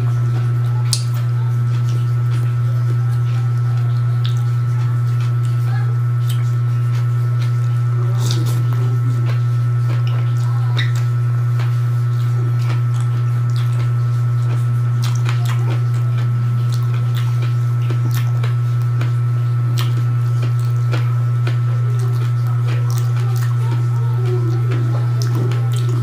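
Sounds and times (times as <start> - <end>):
loud low hum: 0.0 - 26.0
man chewing with mouth smacks: 0.0 - 26.0.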